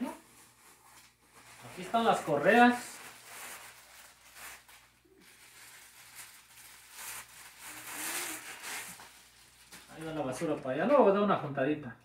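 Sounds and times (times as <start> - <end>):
plastic wrapping rustling: 0.0 - 11.2.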